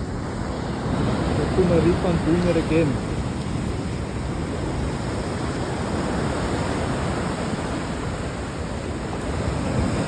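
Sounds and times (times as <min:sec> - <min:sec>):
waves breaking: 0:00.0 - 0:10.0.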